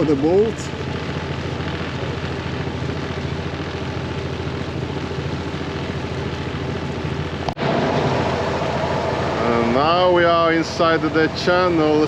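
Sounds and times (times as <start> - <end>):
small boat motor running: 0.0 - 12.0.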